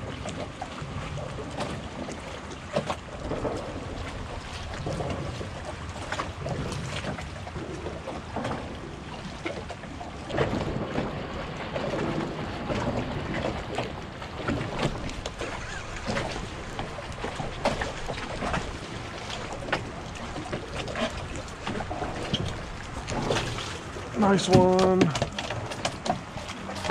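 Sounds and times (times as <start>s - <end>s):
water slapping against hull: 0.0s - 26.9s
wind buffeting microphone: 0.0s - 26.9s.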